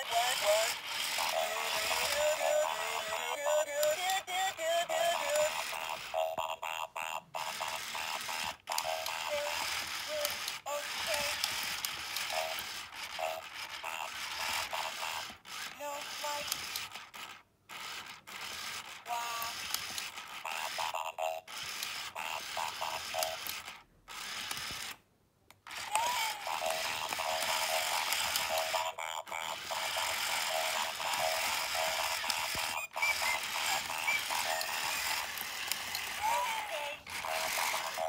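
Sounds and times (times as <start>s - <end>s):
toy robot motors whirring and clicking: 0.0s - 25.0s, 25.6s - 38.0s.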